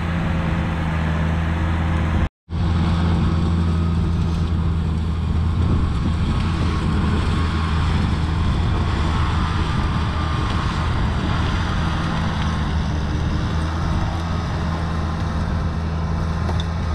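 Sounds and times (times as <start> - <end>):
tractor engine humming: 0.0 - 16.9.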